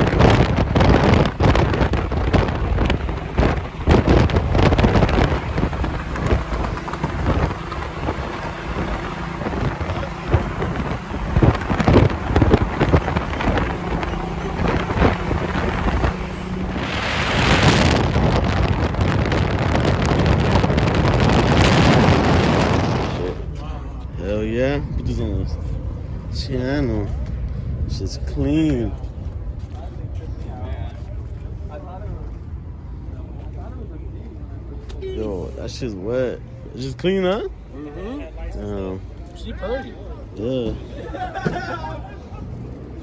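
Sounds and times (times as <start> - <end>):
wind buffeting microphone: 0.0 - 34.8
low rumble of vehicles: 0.0 - 43.0.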